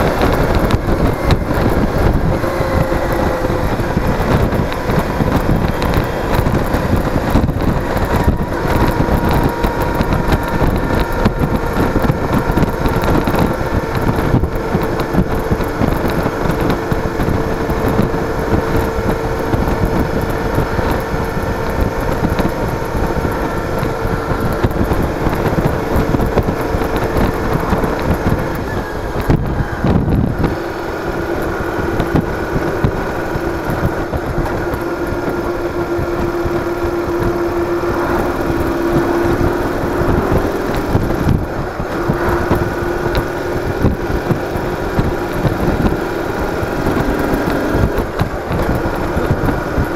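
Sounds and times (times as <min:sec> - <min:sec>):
motorcycle engine drone: 0:00.0 - 0:49.9
wind buffeting microphone: 0:00.0 - 0:49.9.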